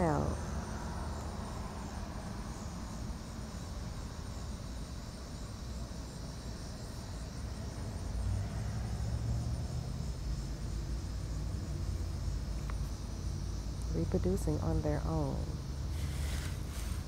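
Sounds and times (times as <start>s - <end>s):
insects chirring: 0.0s - 17.0s
low steady rumble: 0.0s - 17.0s.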